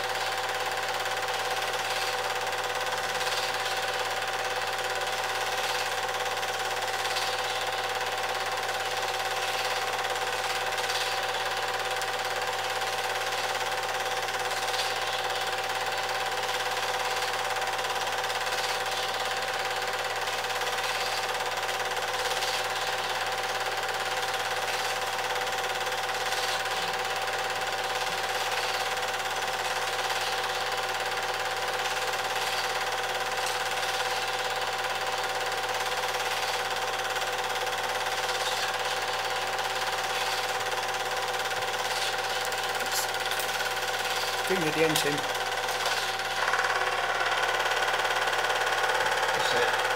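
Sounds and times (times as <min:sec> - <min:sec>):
film projector whirring: 0:00.0 - 0:49.9.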